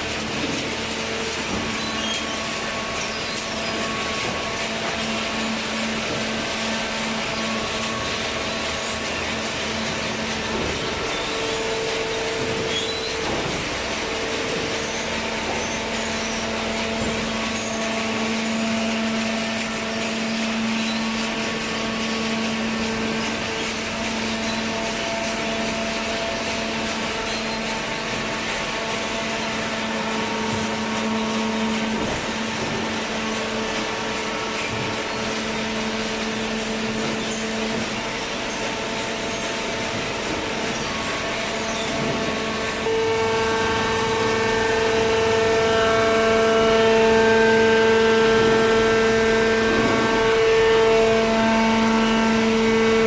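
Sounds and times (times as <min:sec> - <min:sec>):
hydraulic baler humming: 0:00.0 - 0:53.0.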